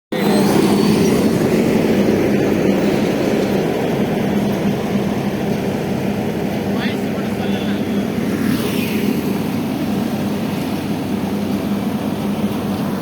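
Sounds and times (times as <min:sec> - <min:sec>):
construction machinery engine drone: 0:00.1 - 0:13.0.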